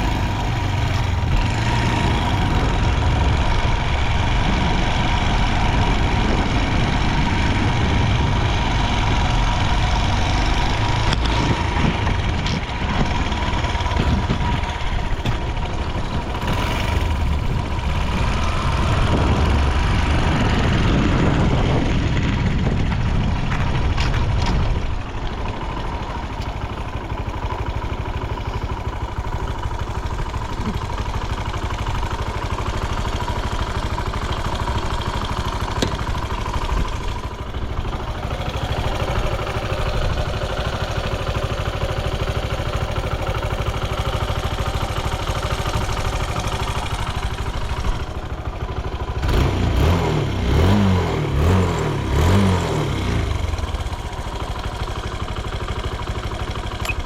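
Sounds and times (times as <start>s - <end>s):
engine idling and revving: 0.0s - 57.0s.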